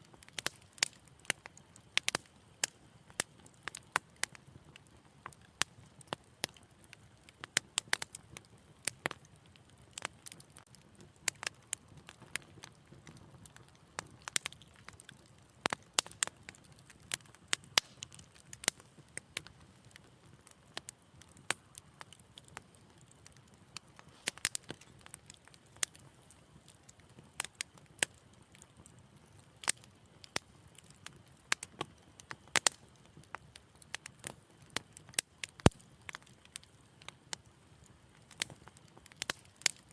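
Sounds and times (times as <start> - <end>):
fire crackling in a fireplace: 0.0 - 39.9
sharp pops and snaps: 0.2 - 6.6, 11.2 - 37.2, 37.8 - 39.9.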